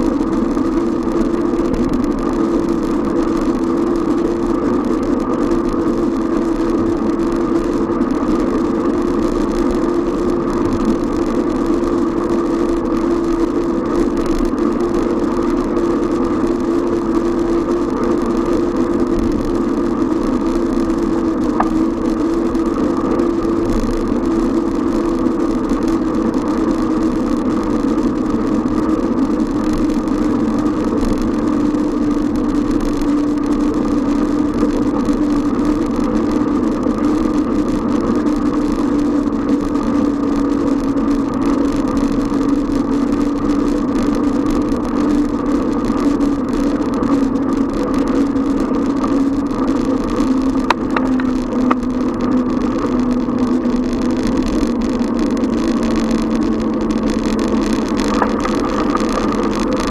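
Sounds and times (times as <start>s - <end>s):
loud mechanical hum: 0.0s - 59.9s
rushing background noise: 0.0s - 59.9s.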